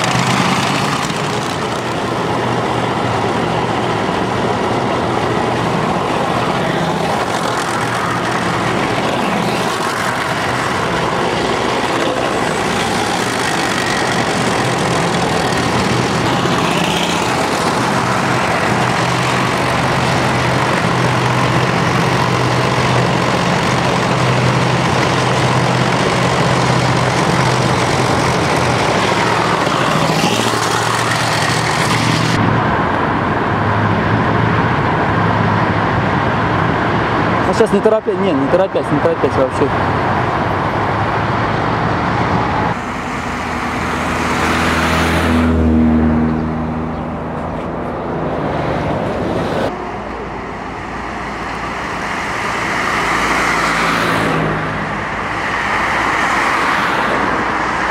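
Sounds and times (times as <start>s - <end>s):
heavy vehicle engines droning: 0.0s - 57.9s
road noise: 0.0s - 57.9s.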